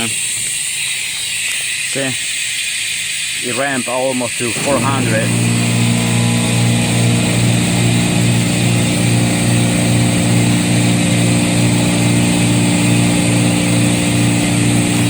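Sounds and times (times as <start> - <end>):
refrigeration compressor humming: 0.0 - 15.0.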